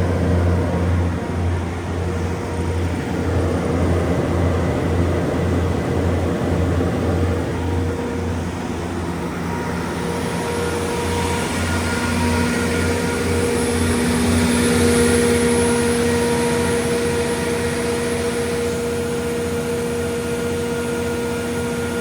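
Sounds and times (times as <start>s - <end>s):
diesel generator engine running: 0.0s - 22.0s.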